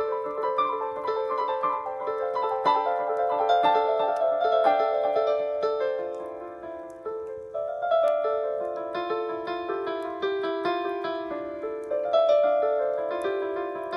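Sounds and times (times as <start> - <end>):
piano-like keyboard melody: 0.0 - 13.9.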